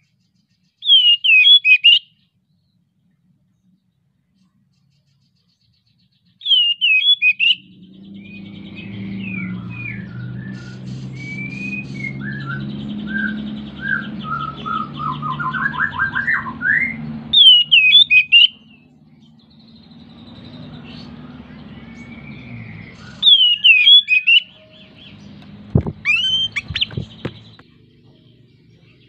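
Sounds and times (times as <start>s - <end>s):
bird singing whistles and trills: 0.0s - 2.7s, 5.2s - 29.0s.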